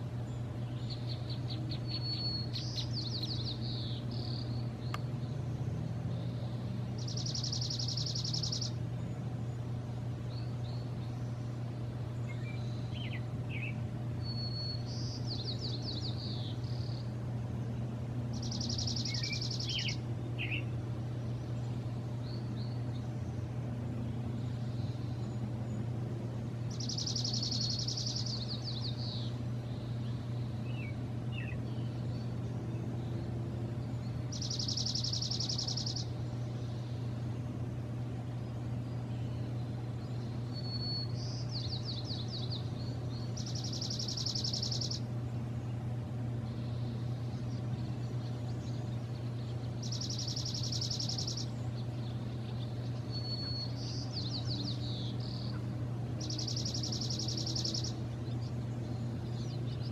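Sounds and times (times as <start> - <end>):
songbird singing trills: 0.0 - 59.9
steady low hum: 0.0 - 59.9.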